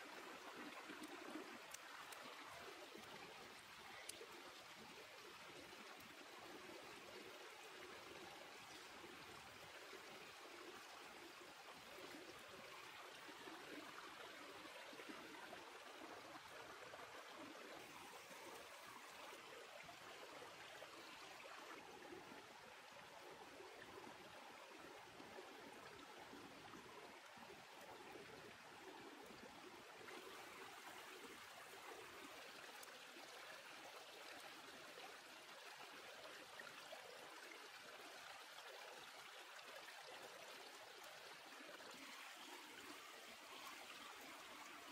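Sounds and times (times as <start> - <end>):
faint stream running: 0.0 - 44.9.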